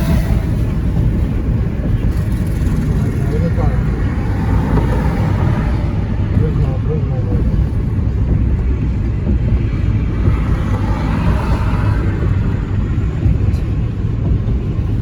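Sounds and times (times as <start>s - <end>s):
road traffic rumble: 0.0s - 15.0s
vehicle passing: 0.0s - 15.0s.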